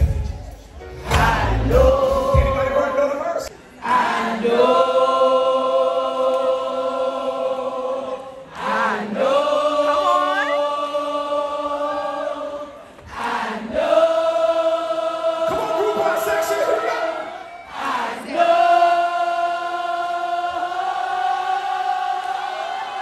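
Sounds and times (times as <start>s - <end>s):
audience singing gospel song: 0.0s - 23.0s.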